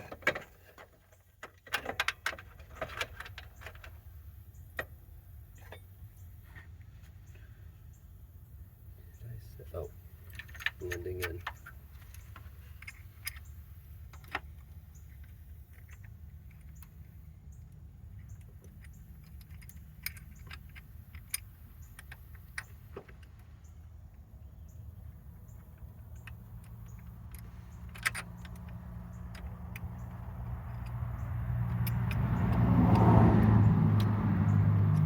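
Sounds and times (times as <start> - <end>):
passing vehicle: 4.0 - 35.0.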